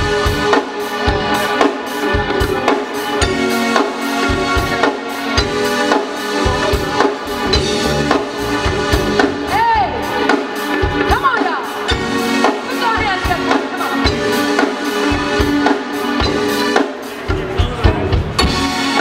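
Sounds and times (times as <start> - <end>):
drum kit steady beat: 0.0 - 19.0
soul band playing: 0.0 - 19.0.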